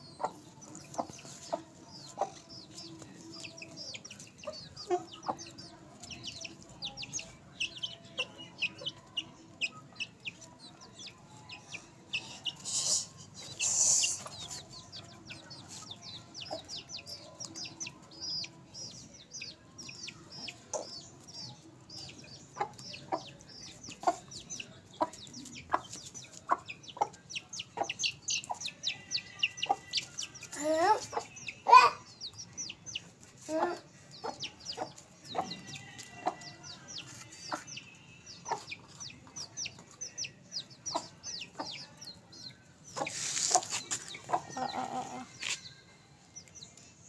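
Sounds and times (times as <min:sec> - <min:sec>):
chicks peeping: 0:00.0 - 0:45.8, 0:46.4 - 0:46.9
beaks tapping on concrete: 0:00.2 - 0:45.8.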